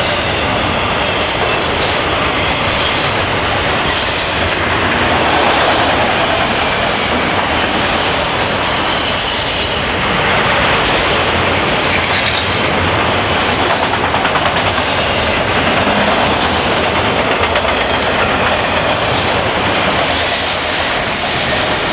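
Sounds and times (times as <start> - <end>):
train wheels rumbling on rail: 0.0 - 21.9
wheels clacking over rail joints: 0.0 - 21.9.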